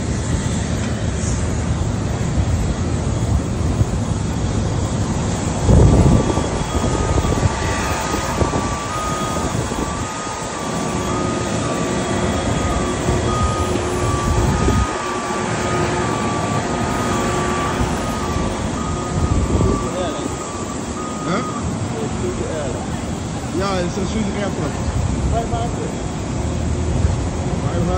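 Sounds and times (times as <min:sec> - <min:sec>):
faint high wavering whine: 0:00.0 - 0:27.9
jet airliner and ground equipment noise: 0:00.0 - 0:27.9
wind buffeting microphone: 0:00.0 - 0:27.9.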